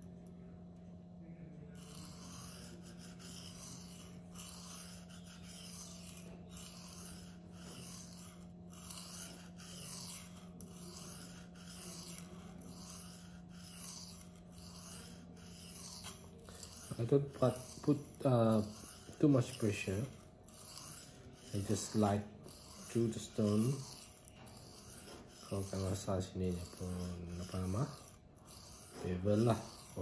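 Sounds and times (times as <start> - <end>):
knife scraping on sharpening stone: 1.8 - 30.0.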